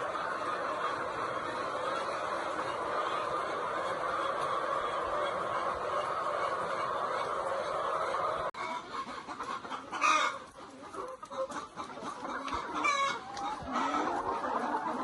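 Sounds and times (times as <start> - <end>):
chicken squawk: 0.0 - 15.0
chickens clucking: 0.0 - 15.0.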